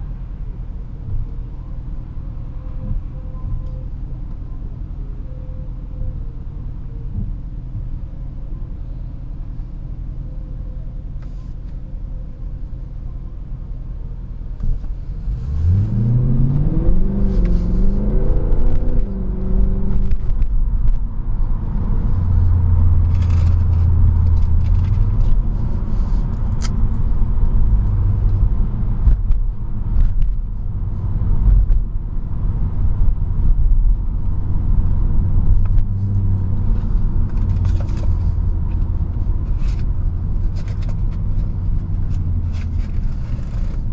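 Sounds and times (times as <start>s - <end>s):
car engine from inside cabin: 0.0s - 43.9s.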